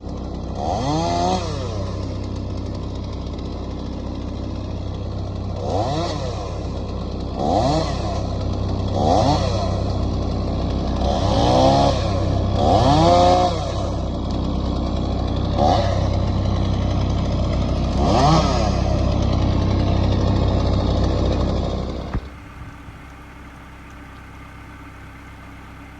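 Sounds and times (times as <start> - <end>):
chainsaw revving: 0.0 - 25.9.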